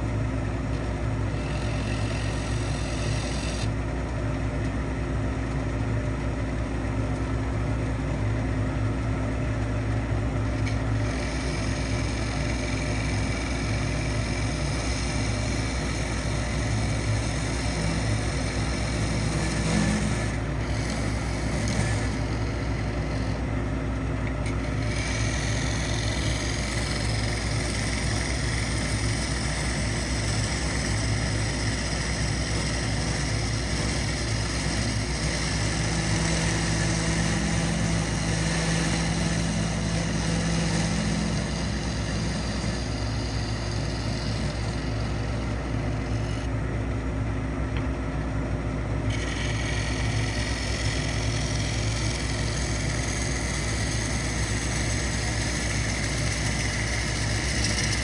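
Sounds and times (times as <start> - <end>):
wood lathe motor humming: 0.0 - 47.4, 48.9 - 58.0
hiss of spinning wood: 0.8 - 3.7, 10.4 - 23.6, 24.3 - 46.5, 49.1 - 58.0.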